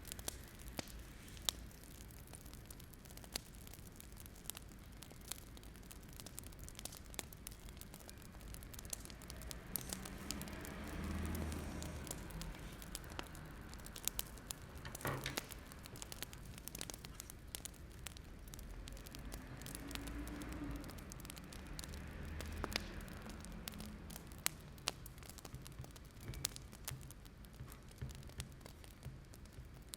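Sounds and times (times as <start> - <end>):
soft hiss of flames: 0.0 - 29.9
wood fire crackling and popping: 0.0 - 29.9.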